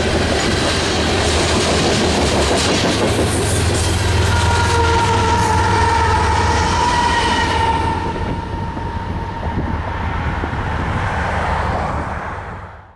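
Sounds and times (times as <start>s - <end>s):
train rolling on track: 0.0s - 12.9s.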